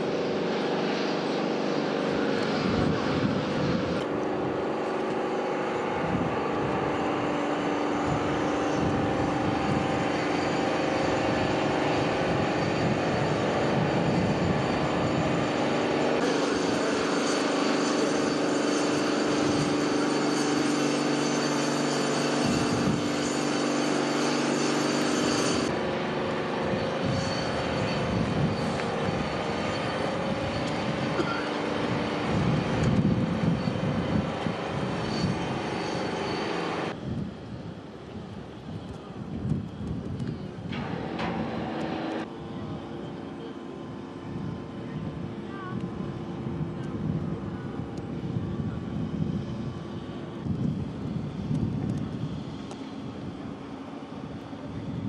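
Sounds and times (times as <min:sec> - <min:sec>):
machinery droning: 0:00.0 - 0:55.0
steady humming tones: 0:00.0 - 0:55.0.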